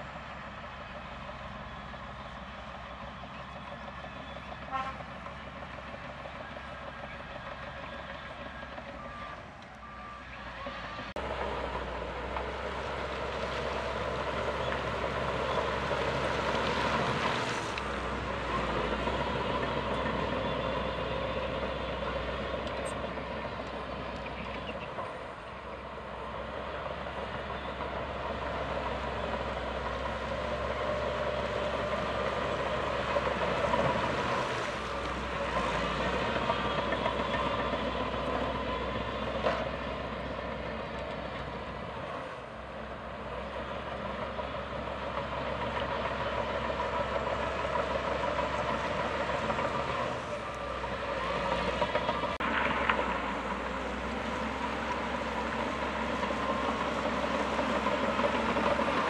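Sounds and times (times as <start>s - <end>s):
heavy diesel machinery drone: 0.0s - 59.0s.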